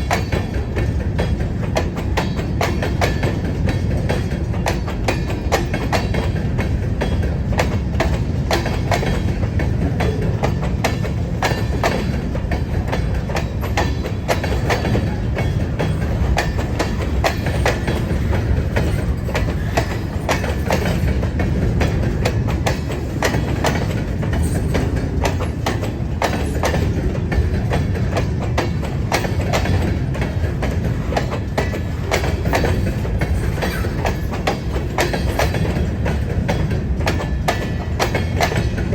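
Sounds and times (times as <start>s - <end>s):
train wheels rumbling on rails: 0.0s - 38.9s
wheels clacking over rail joints: 0.0s - 38.9s.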